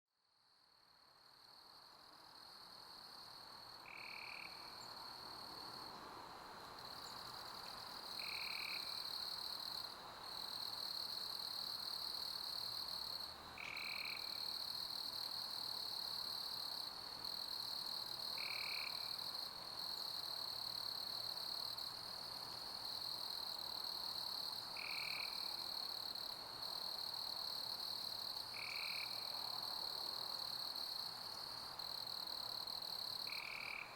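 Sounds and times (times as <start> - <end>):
crickets chirping: 0.5 - 33.9.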